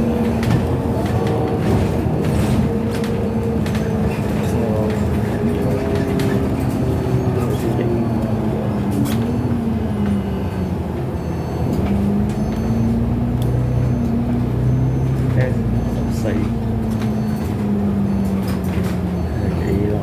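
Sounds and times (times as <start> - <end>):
bus engine running: 0.0 - 20.0
low road rumble: 0.0 - 20.0.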